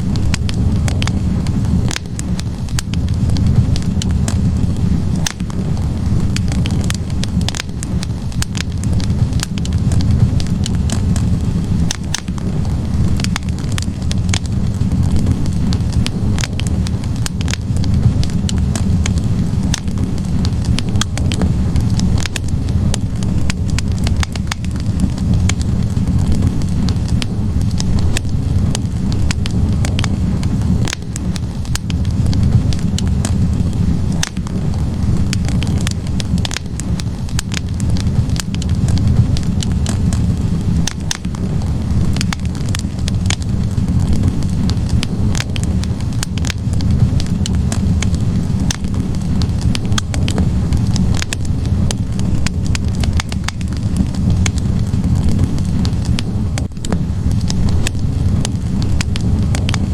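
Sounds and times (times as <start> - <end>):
low rumble of flames: 0.0 - 59.9
wood crackling and popping: 0.0 - 59.9.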